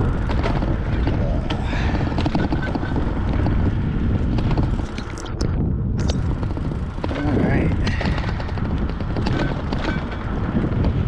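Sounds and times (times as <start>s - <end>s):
bicycle clicks and rattles: 0.0s - 11.0s
wind buffeting microphone: 0.0s - 11.0s.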